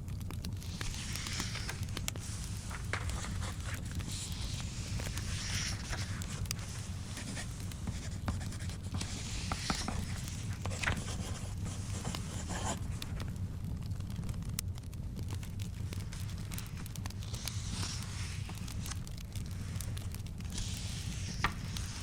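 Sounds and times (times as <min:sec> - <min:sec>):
wood fire crackling: 0:00.0 - 0:22.0
book pages turning: 0:00.2 - 0:13.4, 0:15.4 - 0:22.0.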